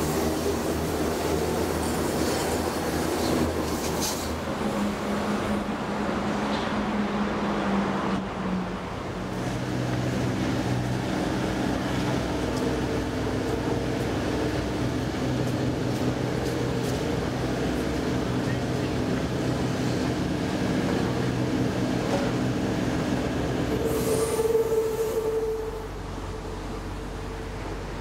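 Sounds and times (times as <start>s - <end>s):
city traffic din: 0.0s - 28.0s
train passing with motor hum: 0.0s - 28.0s.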